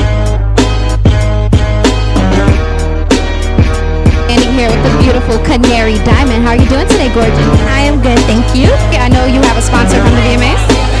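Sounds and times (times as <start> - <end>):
steady low bass: 0.0 - 11.0.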